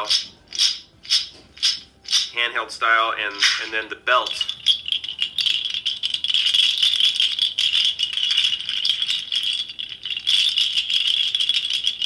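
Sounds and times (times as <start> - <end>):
seed pod rattle clattering: 0.0 - 2.5, 3.2 - 12.0.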